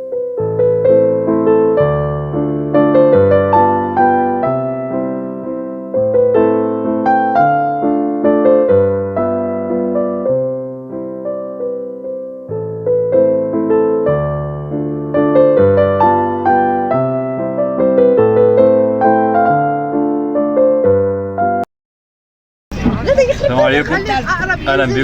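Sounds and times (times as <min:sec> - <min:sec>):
gentle piano music: 0:00.0 - 0:21.7.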